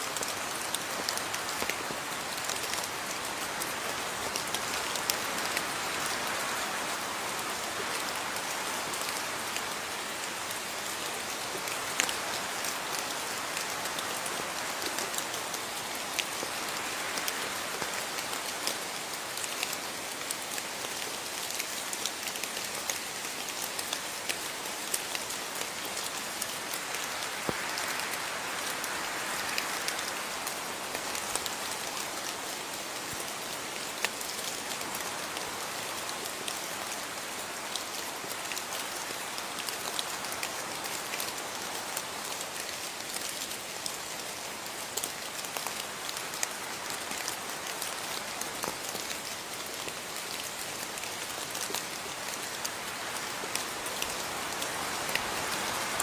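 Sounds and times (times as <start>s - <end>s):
steady rain on a surface: 0.0s - 56.0s.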